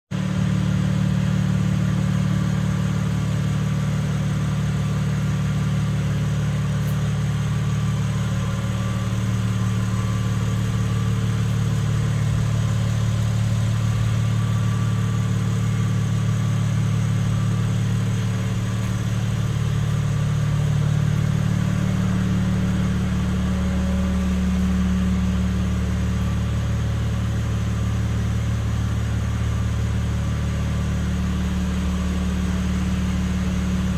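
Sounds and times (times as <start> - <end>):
car engine running: 0.2 - 33.9.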